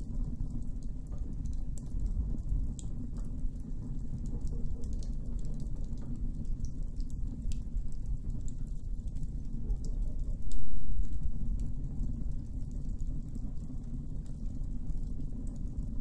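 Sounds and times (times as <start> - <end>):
campfire crackling and popping: 0.0 - 16.0
low steady rumble: 0.0 - 16.0.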